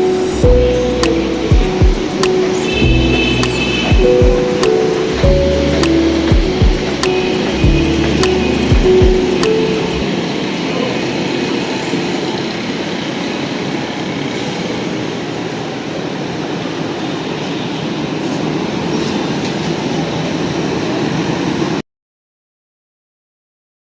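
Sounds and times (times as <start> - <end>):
electric metro train rumbling: 0.0 - 21.8.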